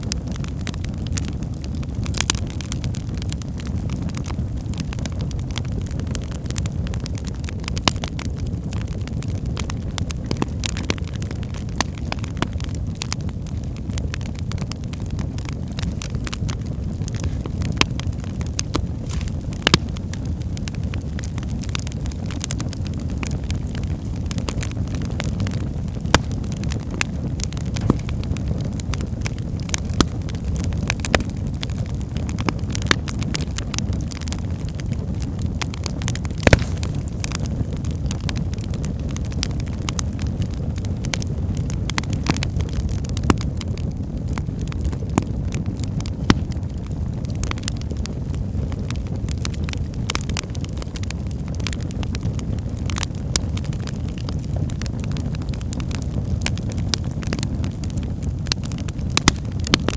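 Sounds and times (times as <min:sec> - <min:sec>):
burning logs crackling and popping: 0:00.0 - 0:59.9
low rumble of flames: 0:00.0 - 0:59.9.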